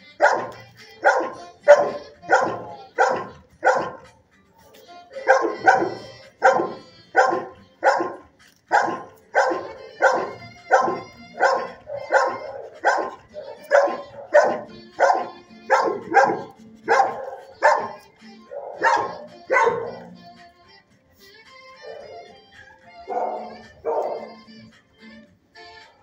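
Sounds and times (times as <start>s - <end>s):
dog barking: 0.2s - 20.2s, 21.8s - 24.7s.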